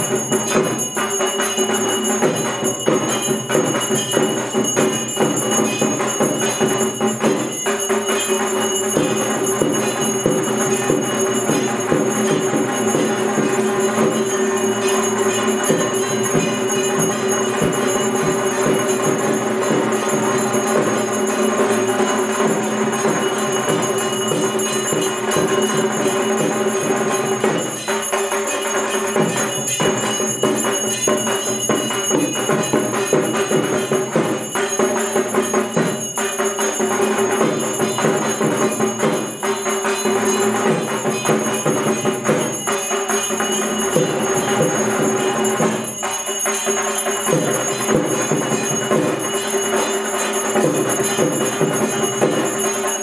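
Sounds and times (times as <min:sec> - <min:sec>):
bell and percussion music: 0:00.0 - 0:53.0.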